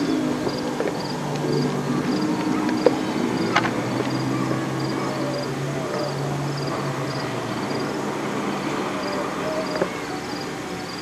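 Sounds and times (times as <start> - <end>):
insect chirping in high pulses: 0.0 - 11.0.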